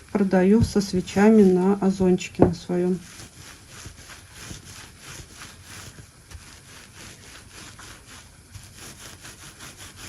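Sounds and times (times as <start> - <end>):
dry herbs rustling against palms: 0.4 - 10.0.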